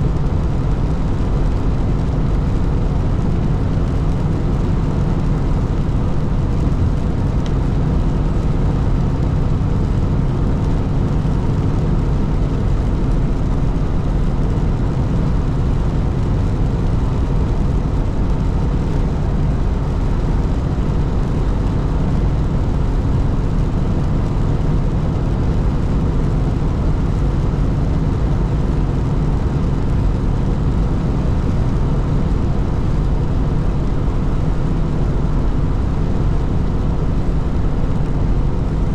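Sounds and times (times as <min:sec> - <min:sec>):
truck engine and tyres droning: 0:00.0 - 0:38.9.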